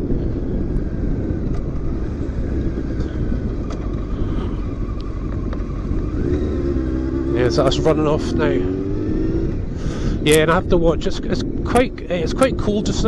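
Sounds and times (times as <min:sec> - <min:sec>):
motorcycle engine drone: 0:00.0 - 0:13.0
wind rushing on microphone: 0:00.0 - 0:13.0.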